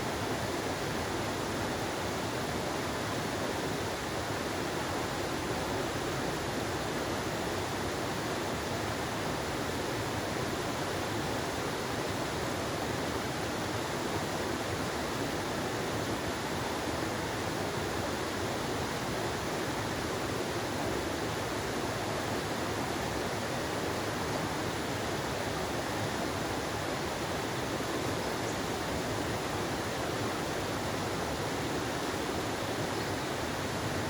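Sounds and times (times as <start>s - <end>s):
stream water running: 0.0s - 34.0s.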